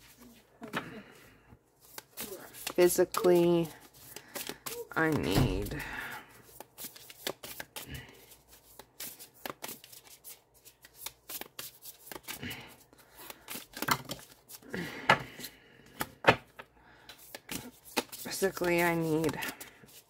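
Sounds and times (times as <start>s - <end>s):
cards being shuffled: 1.8s - 14.6s, 15.4s - 20.0s.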